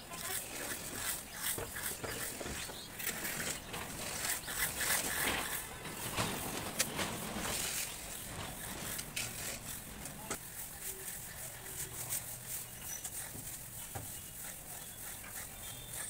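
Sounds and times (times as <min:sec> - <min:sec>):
float scraping wall plaster: 0:00.0 - 0:16.0.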